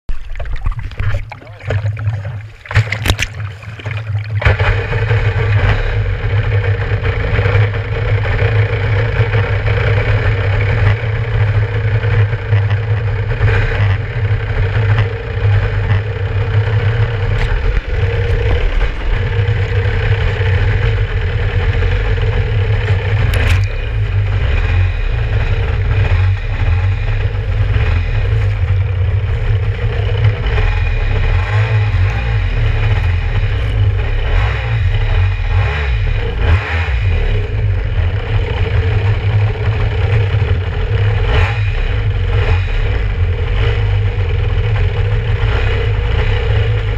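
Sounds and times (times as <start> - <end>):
two-stroke engine idling: 3.7 - 46.9.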